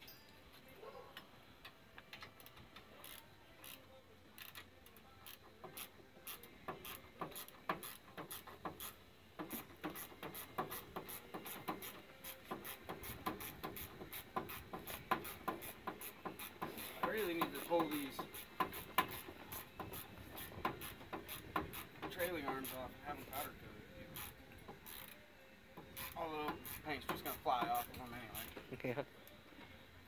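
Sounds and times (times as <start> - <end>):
ratchet wrench clicking: 2.1 - 23.5, 24.1 - 25.2, 25.8 - 28.6.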